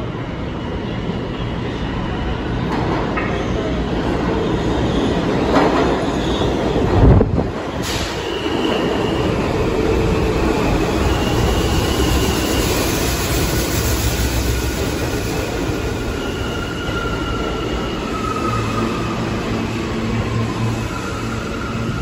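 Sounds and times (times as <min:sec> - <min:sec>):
high whining train tones: 0:00.0 - 0:22.0
train wheels rumbling on rail: 0:01.1 - 0:22.0.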